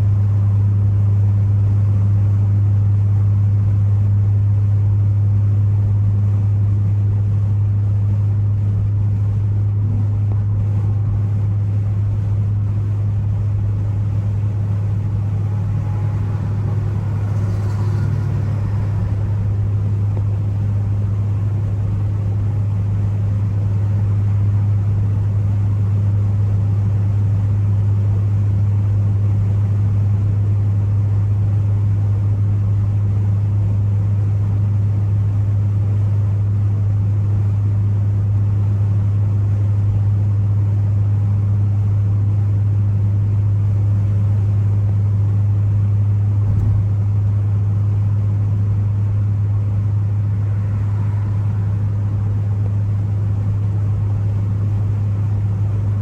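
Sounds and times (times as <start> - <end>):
car engine and road noise drone: 0.0 - 36.3, 44.0 - 56.0.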